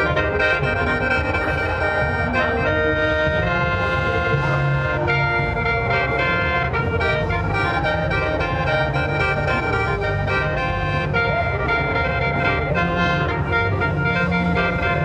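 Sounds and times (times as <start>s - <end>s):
mouth organ reedy chords: 0.0s - 15.0s.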